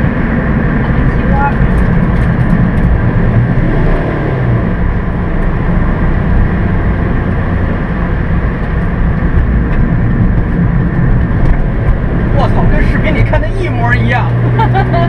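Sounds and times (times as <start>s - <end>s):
in-car driving noise: 0.0s - 15.0s.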